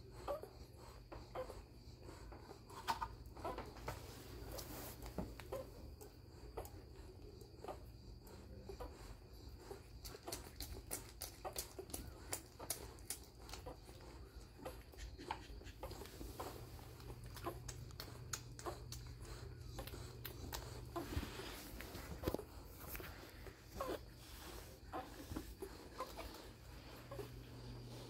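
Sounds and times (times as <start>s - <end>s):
low steady hum: 0.0s - 28.0s
puppies suckling wet clicks: 2.2s - 28.0s.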